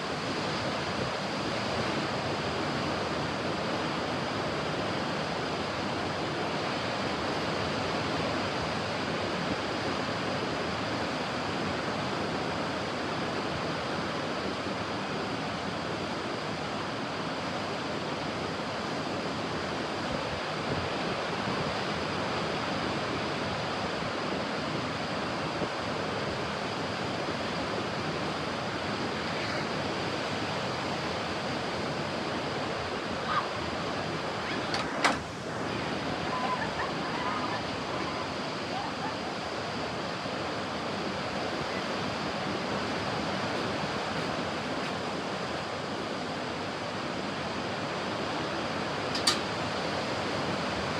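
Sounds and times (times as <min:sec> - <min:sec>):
ocean surf on a beach: 0:00.0 - 0:50.9.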